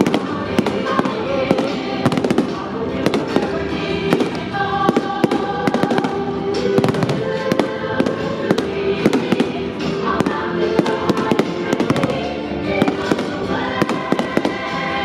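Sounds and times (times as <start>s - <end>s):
fireworks bangs and crackles: 0.0s - 15.0s
loud music: 0.0s - 15.0s.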